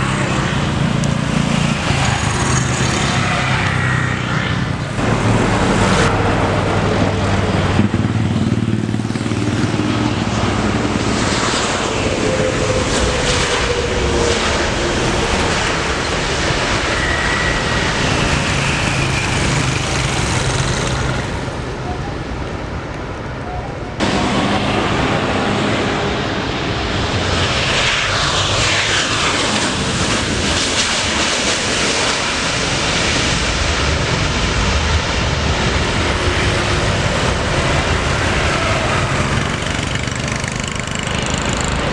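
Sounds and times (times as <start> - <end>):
jet engines rumbling with whine: 0.0 - 41.9.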